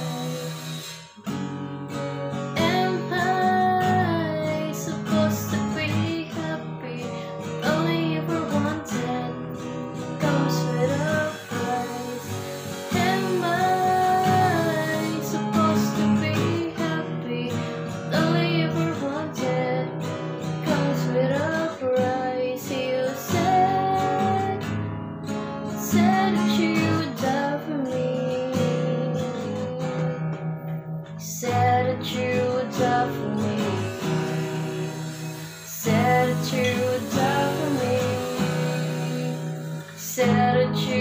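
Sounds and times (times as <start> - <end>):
person singing: 0.0 - 24.8, 25.8 - 30.5, 31.1 - 41.0
acoustic guitar strumming: 0.0 - 41.0.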